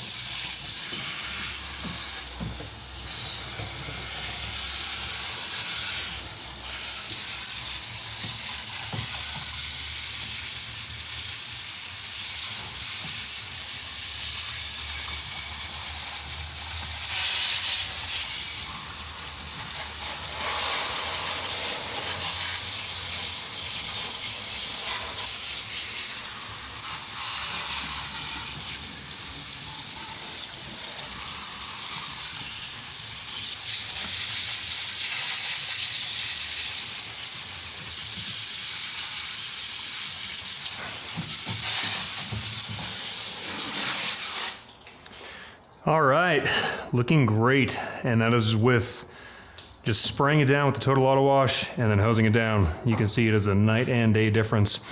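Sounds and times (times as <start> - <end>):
garden hose spraying water: 0.0 - 45.5.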